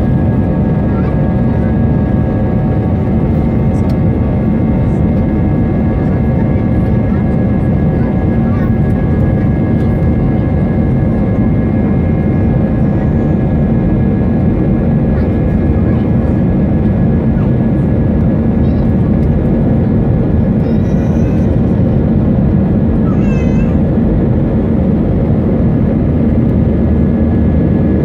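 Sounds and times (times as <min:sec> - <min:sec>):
jet engine roar: 0:00.0 - 0:28.0.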